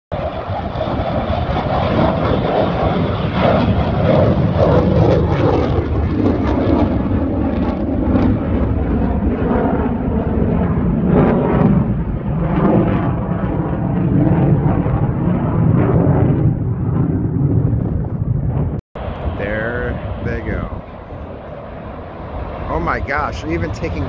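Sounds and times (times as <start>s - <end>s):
jet engines rumbling: 0.1s - 24.0s.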